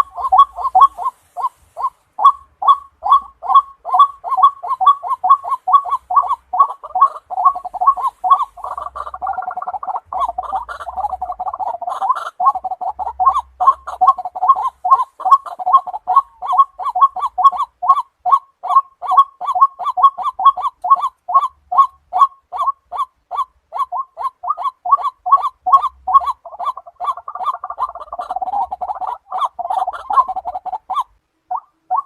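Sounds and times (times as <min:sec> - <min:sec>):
waterhen harsh croaking calls: 0:00.0 - 0:32.0.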